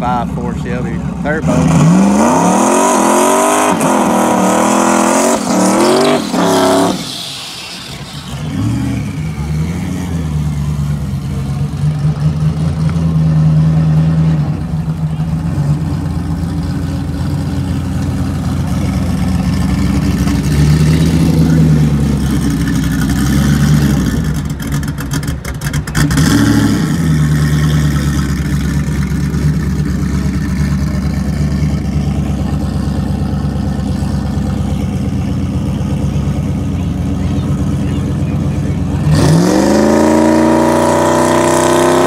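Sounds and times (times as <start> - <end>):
engine crackles: 0.0 - 42.0
engine idling and revving: 0.0 - 42.0.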